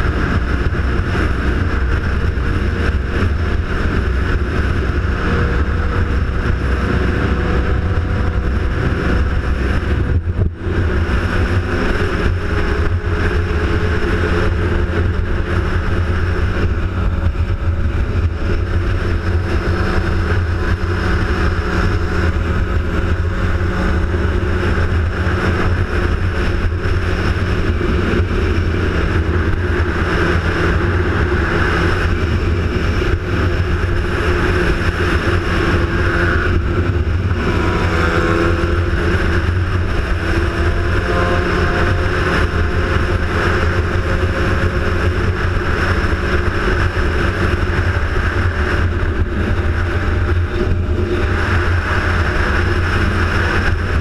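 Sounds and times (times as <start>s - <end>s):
rushing noise: 0.0s - 54.0s
vehicle engine drone: 0.0s - 54.0s.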